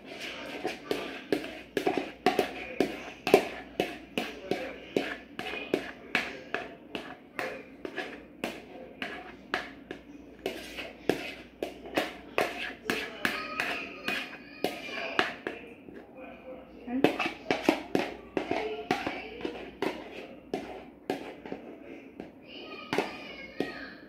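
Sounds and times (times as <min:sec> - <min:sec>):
utensil tapping and scraping bowl: 0:00.0 - 0:16.1, 0:16.9 - 0:24.0.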